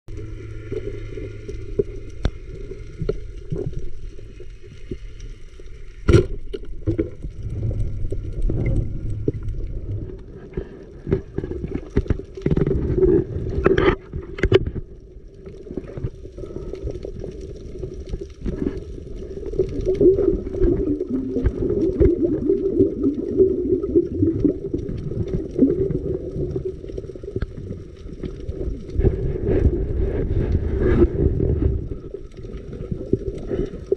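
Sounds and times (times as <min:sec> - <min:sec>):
muffled underwater rumble: 0:00.1 - 0:33.9.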